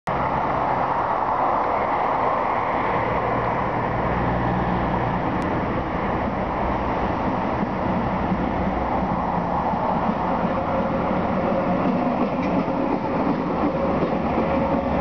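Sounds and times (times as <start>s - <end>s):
diesel train engine drone: 0.1s - 15.0s.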